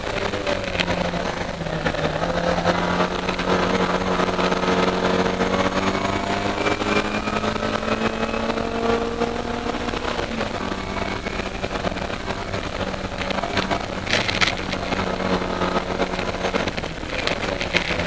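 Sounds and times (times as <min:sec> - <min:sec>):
race car engine from inside cabin: 0:00.0 - 0:18.0.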